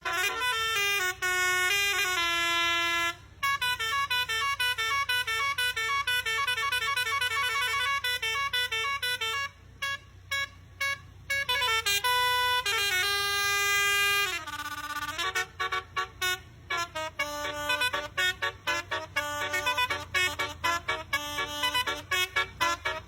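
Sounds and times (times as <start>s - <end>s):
multi-tone air horn playing tune: 0.0s - 23.0s.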